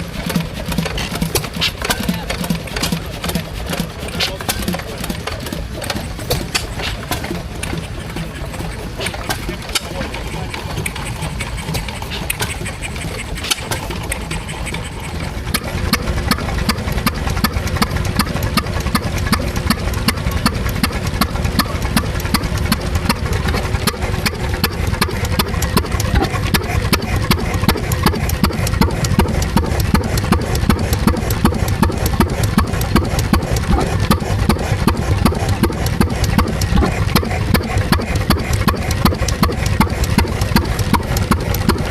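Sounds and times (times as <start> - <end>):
stationary engine running: 0.0 - 41.9.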